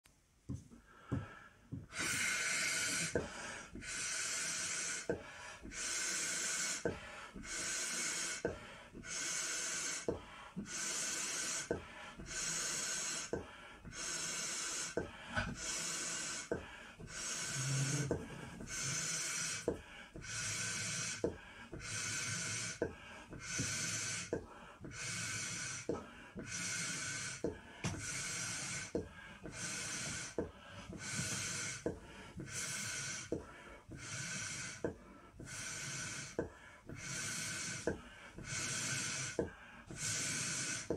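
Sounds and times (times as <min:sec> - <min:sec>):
breaths blowing up balloon: 0:00.5 - 0:40.9.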